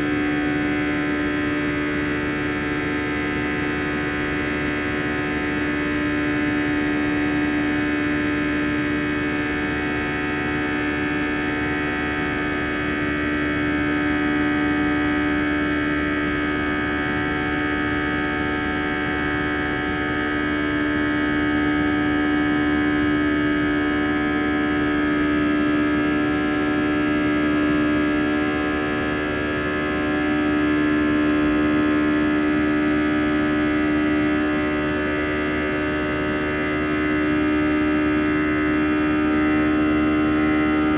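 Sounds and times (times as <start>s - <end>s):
jet engine cabin drone: 0.0s - 40.9s.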